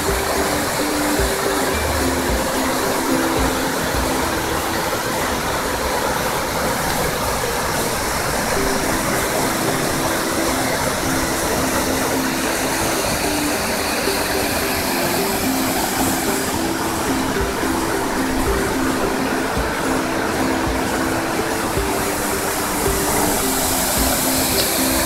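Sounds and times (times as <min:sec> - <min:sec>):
background music melody: 0:00.0 - 0:25.0
waterfall rushing: 0:00.0 - 0:25.0.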